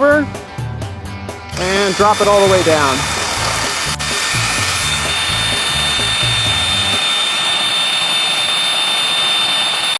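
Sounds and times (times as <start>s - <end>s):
power drill whining: 1.6s - 9.9s.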